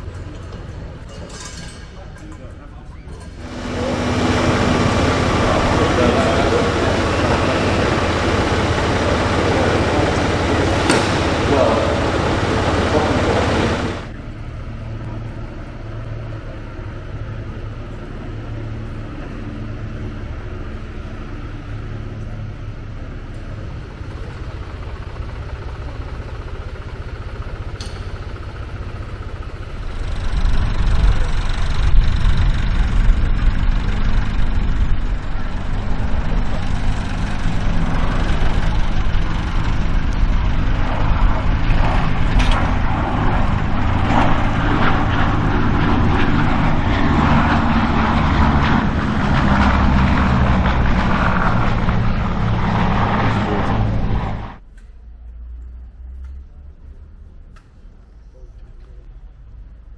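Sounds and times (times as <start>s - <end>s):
aircraft piston engines humming: 0.0s - 54.6s
rough engine rumble: 0.0s - 59.9s.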